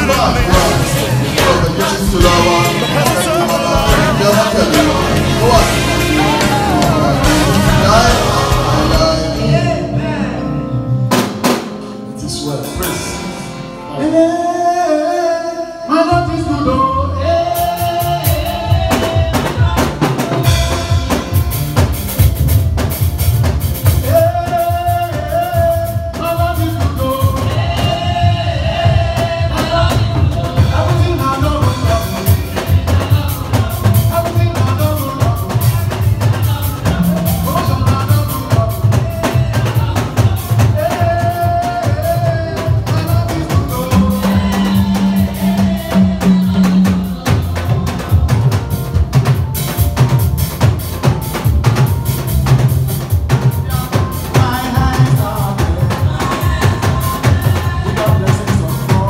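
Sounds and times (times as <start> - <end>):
person singing: 0.0 - 10.8, 12.1 - 21.2, 24.0 - 49.2, 53.4 - 59.0
drum kit beat: 0.0 - 14.6, 16.1 - 59.0
bass: 0.0 - 59.0.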